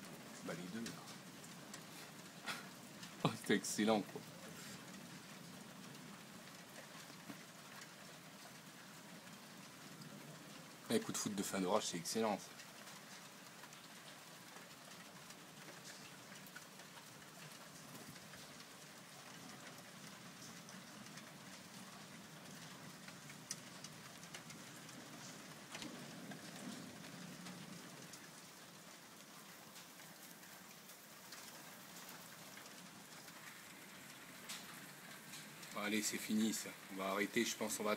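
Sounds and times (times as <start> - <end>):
faint rain on roofs: 0.0 - 37.9.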